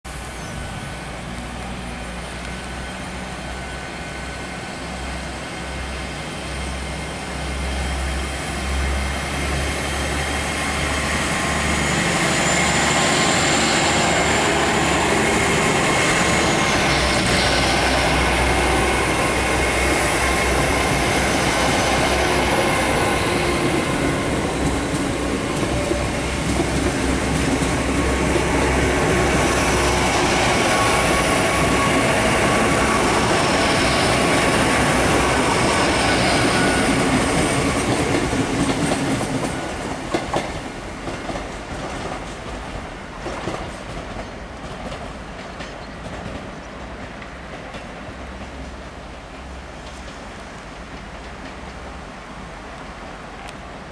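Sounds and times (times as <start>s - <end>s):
diesel train passing: 0.1s - 53.9s.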